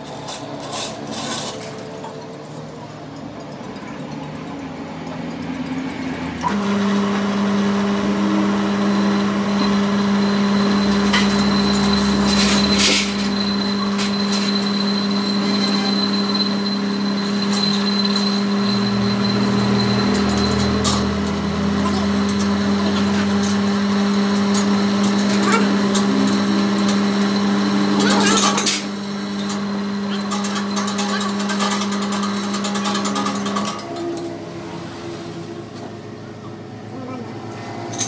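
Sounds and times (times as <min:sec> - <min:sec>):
workshop machine humming and whining: 0:00.0 - 0:38.0.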